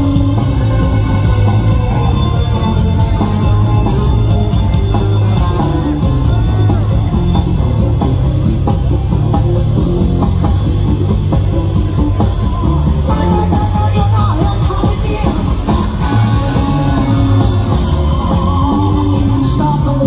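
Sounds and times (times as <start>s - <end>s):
bending guitar lead: 0.0s - 20.0s
rock band playing: 0.0s - 20.0s.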